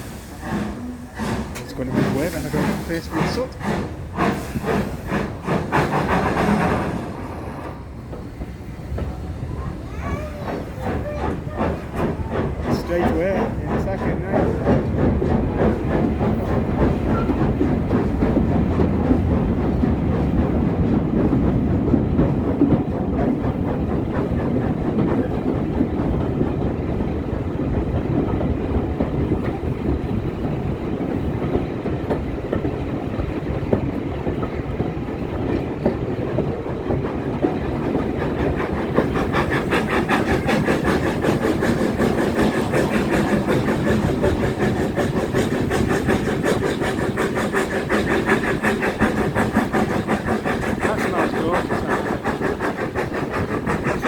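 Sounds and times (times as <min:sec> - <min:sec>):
clickety-clack of train wheels: 0:00.0 - 0:54.0
train rumbling on rails: 0:00.0 - 0:54.0.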